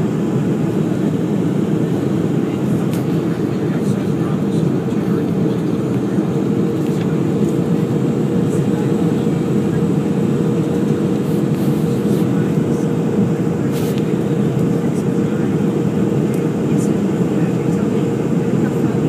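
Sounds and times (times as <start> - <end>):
airplane cabin engine and airflow noise: 0.0 - 19.0.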